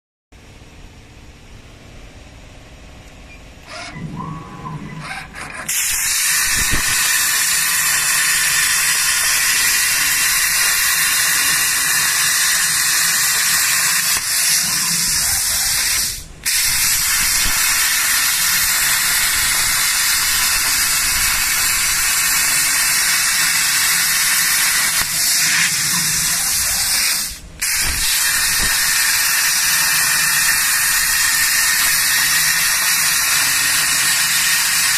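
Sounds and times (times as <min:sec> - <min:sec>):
plasma cutter hissing: 0:03.7 - 0:34.9.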